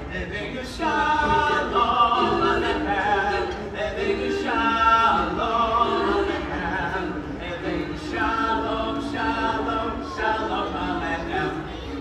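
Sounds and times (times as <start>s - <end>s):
choir singing a cappella: 0.0s - 12.0s.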